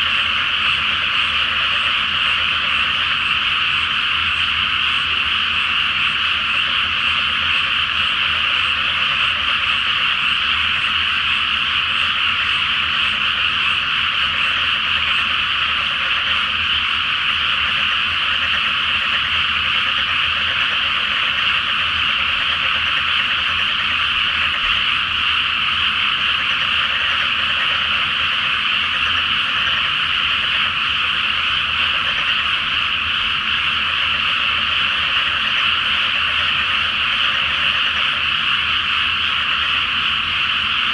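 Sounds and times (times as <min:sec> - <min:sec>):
chorus of frogs trilling: 0:00.0 - 0:40.9.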